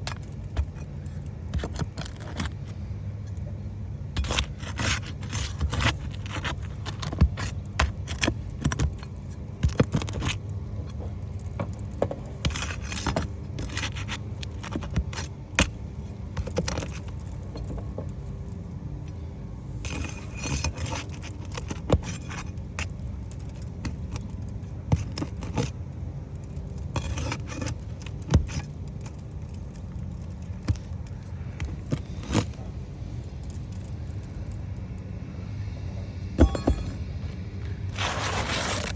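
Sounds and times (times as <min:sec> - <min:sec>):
hand tools scraping and clinking: 0:00.0 - 0:03.5, 0:04.2 - 0:18.3, 0:19.8 - 0:34.4, 0:36.4 - 0:38.9
steady low hum: 0:00.0 - 0:38.9.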